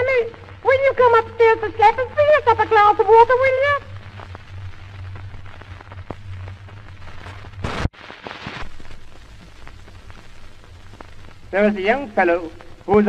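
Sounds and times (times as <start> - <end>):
low hum: 0.0 - 7.9, 8.5 - 13.0
record crackle and clicks: 0.0 - 13.0.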